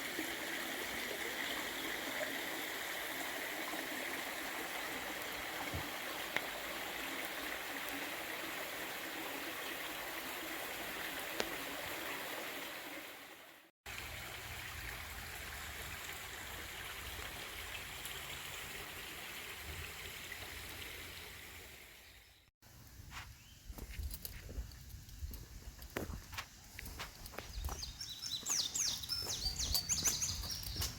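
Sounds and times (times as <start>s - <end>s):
stream water running: 0.0s - 22.5s, 23.7s - 30.9s.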